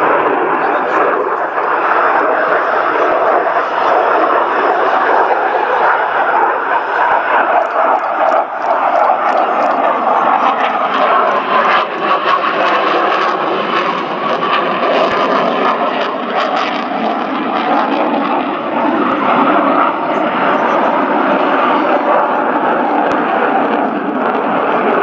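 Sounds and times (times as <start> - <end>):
loud jet engine roar: 0.0 - 25.0.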